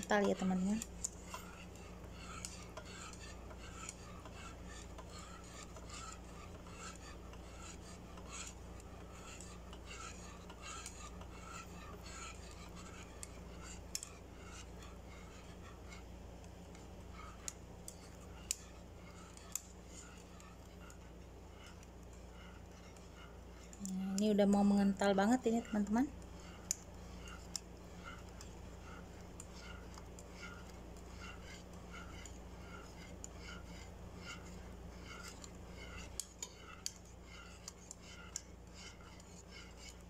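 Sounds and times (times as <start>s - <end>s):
whisk scraping a pan: 0.0s - 40.0s.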